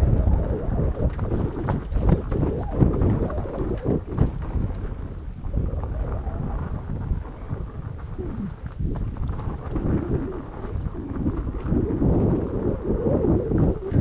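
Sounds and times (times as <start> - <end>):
bike rumbling over rough trail: 0.0 - 14.0
wind buffeting microphone: 0.0 - 14.0.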